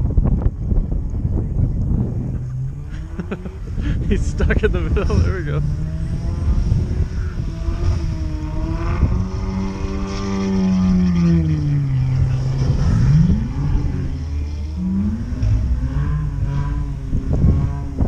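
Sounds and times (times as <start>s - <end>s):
vehicle engine revving: 0.1s - 18.0s.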